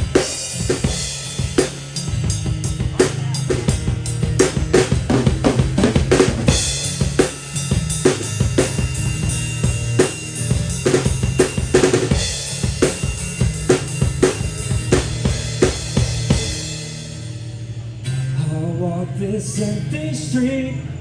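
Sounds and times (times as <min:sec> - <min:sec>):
drum kit playing a steady beat: 0:00.0 - 0:18.1
sustained bass line: 0:00.0 - 0:21.0.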